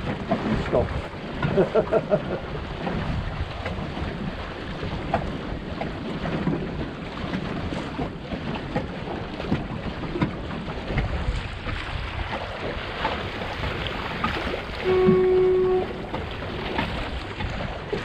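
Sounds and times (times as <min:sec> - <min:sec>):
knocks on boat: 0:00.0 - 0:18.0
water splashing against hull: 0:00.0 - 0:18.0
wind buffeting microphone: 0:00.0 - 0:18.0.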